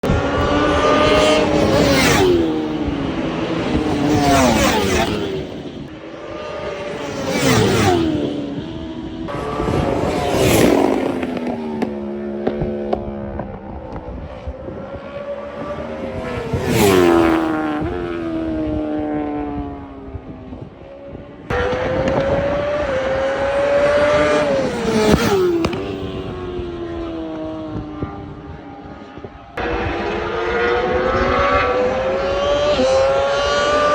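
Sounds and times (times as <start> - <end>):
motorcycle engine revving high: 0.0 - 20.2, 21.5 - 28.7, 29.6 - 33.9.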